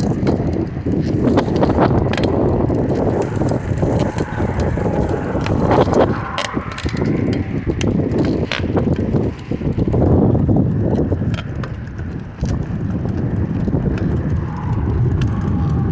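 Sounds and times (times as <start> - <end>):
clicks and knocks from bike: 0.0 - 15.9
wind noise on microphone: 0.0 - 15.9.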